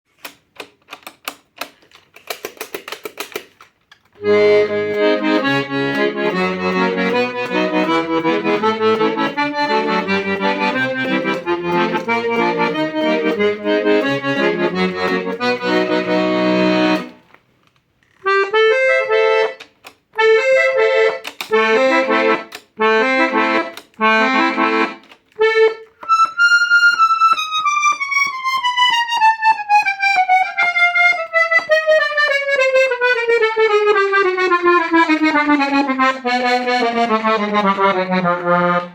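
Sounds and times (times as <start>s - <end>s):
accordion playing: 4.2s - 17.3s, 18.2s - 38.9s.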